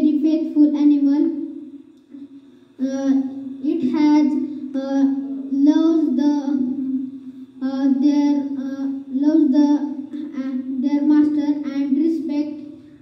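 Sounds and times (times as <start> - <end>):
boy speaking into a microphone: 0.0 - 1.6, 2.8 - 13.0.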